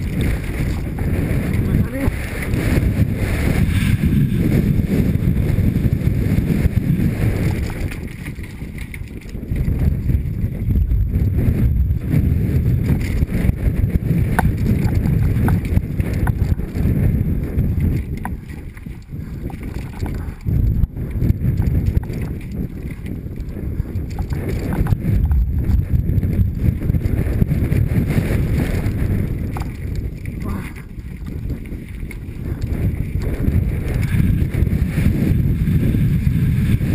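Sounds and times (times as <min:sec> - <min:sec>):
bike rattling: 0:00.0 - 0:36.9
wind buffeting microphone: 0:00.0 - 0:36.9.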